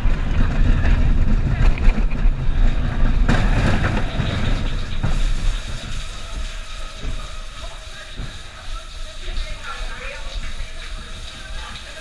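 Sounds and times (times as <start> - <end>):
roller coaster car rumbling on track: 0.0 - 12.0
roller coaster clatter: 0.0 - 12.0.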